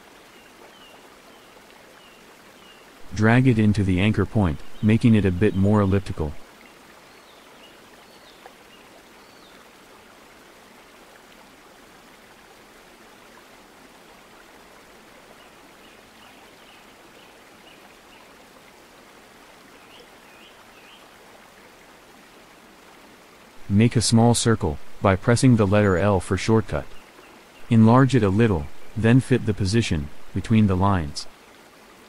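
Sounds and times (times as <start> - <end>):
faint background hiss: 0.0 - 32.0.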